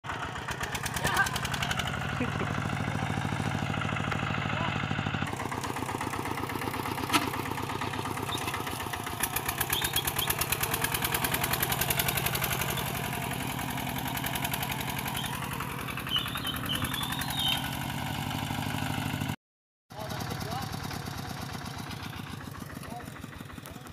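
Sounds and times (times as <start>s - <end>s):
single-cylinder diesel engine running: 0.0s - 23.9s.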